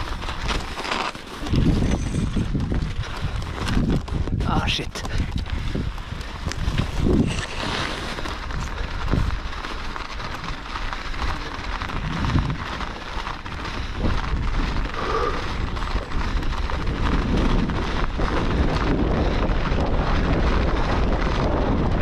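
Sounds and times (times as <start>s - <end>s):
bike rattling: 0.0s - 22.0s
tyres crunching over snow: 0.0s - 22.0s
wind buffeting microphone: 1.4s - 22.0s.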